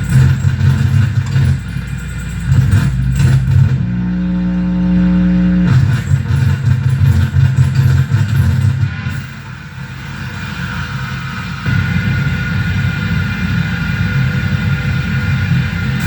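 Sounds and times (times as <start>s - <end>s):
droning feedback tone: 0.0s - 16.0s
stuttering electronic bass rumble: 0.0s - 16.0s.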